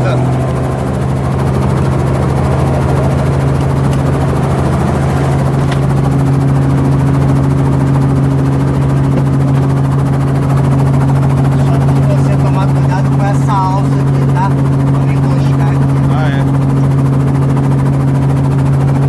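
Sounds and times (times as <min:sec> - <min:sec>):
helicopter engine and rotor: 0:00.0 - 0:19.0
higher hum: 0:00.0 - 0:19.0.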